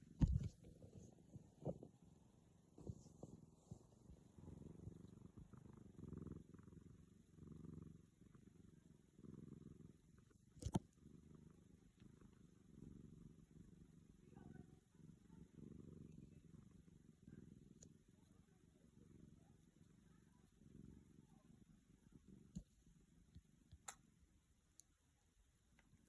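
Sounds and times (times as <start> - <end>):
cat purring softly: 0.0 - 26.0.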